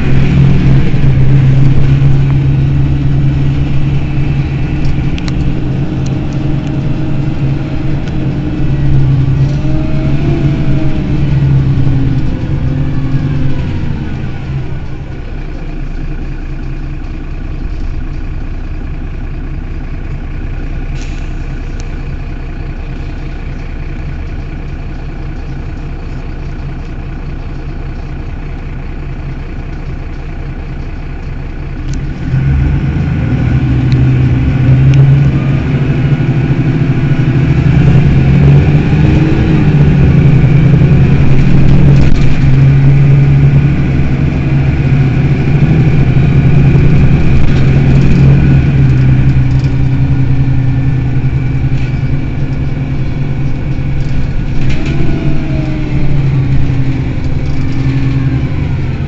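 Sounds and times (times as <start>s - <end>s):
bus engine idling and accelerating: 0.0s - 59.0s.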